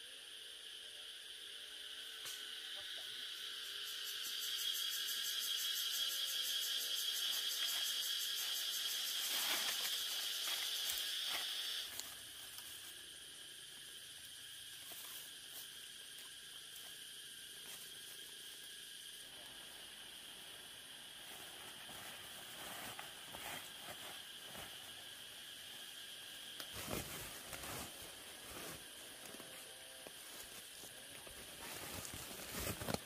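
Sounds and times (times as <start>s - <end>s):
faint insect drone: 0.0s - 33.0s
insects shrilling chorus: 0.0s - 33.0s.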